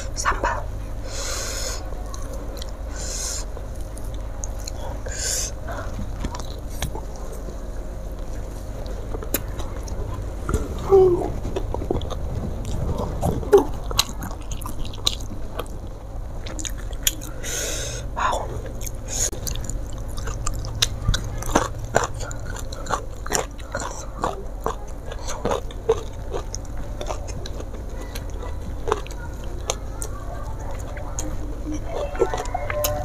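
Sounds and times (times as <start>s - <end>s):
person chewing wetly: 1.2s - 7.5s, 8.1s - 33.0s.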